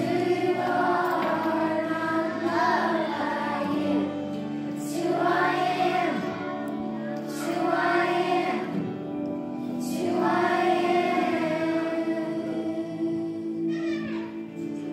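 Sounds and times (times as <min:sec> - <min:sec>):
children's choir singing: 0:00.0 - 0:14.9.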